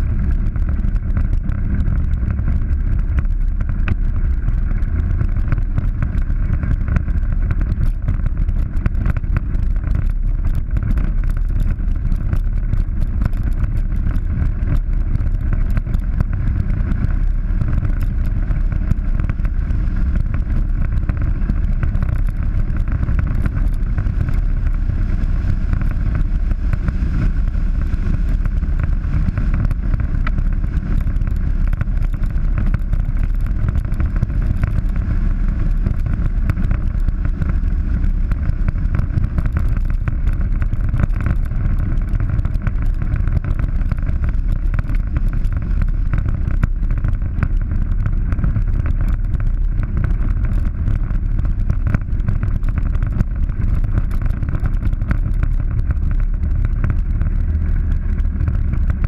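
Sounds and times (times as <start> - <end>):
rumble from rough track: 0.0 - 59.0
vehicle engine drone: 0.0 - 59.0
wind rush: 0.0 - 59.0.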